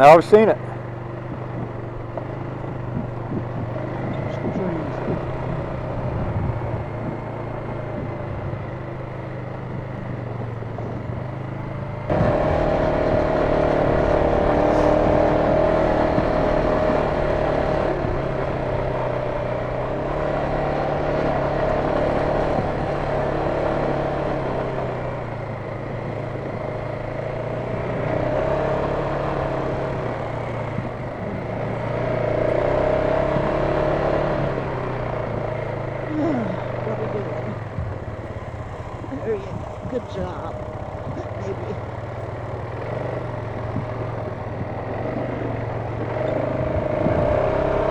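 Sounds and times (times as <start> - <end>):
steady whine: 0.0 - 47.9
vehicle engine running: 0.0 - 47.9.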